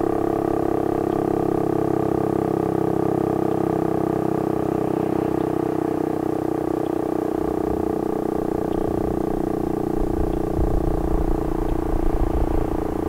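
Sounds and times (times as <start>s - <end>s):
warning siren steady pitch: 0.0s - 13.0s.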